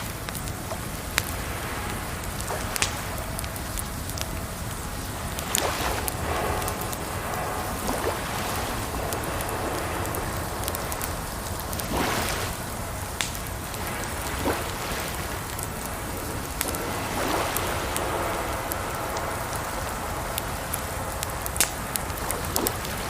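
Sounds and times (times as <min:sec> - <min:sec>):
campfire crackling and popping: 0:00.0 - 0:23.0
rushing water: 0:00.0 - 0:23.0.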